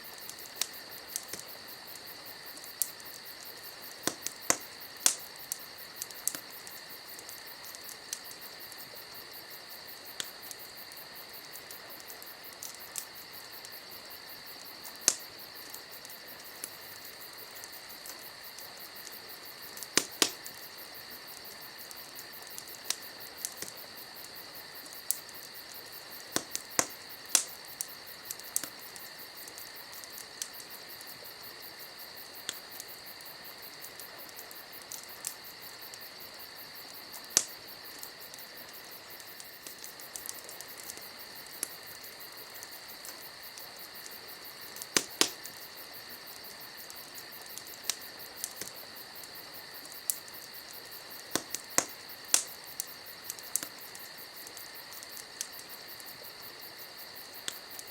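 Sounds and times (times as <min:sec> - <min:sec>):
campfire crackling and popping: 0:00.0 - 0:57.9
crickets trilling: 0:00.0 - 0:57.9.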